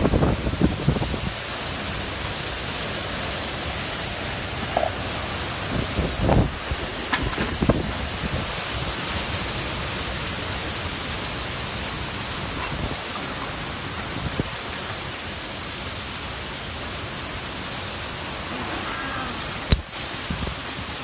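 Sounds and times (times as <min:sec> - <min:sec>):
heavy wind-driven rain: 0:00.0 - 0:21.0.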